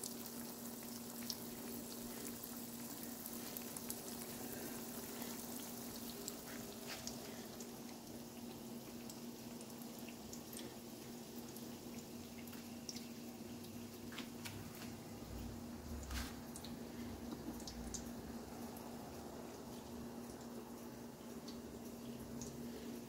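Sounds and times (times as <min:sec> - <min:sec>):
food frying in oil: 0:00.0 - 0:23.0.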